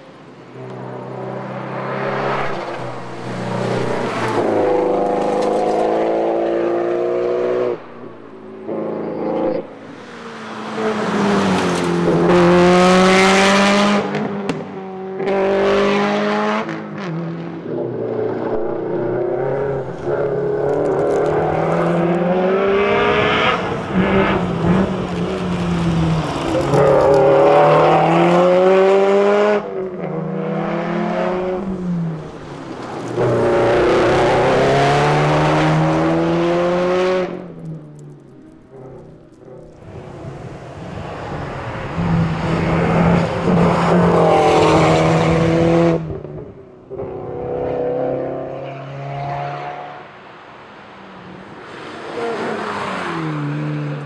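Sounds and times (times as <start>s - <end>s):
rally car engine revving: 0.0s - 50.1s.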